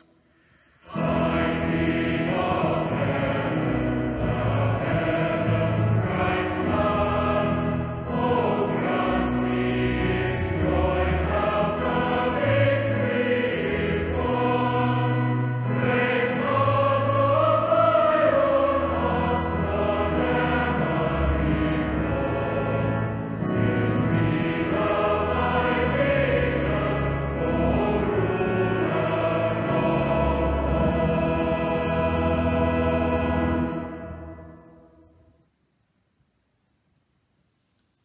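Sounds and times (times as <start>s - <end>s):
choir singing church music: 0.0s - 35.4s
low held accompaniment notes: 0.7s - 35.4s.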